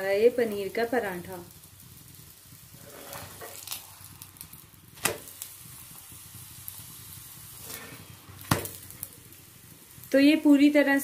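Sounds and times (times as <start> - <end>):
flatbread sizzling in oil: 0.0 - 11.0.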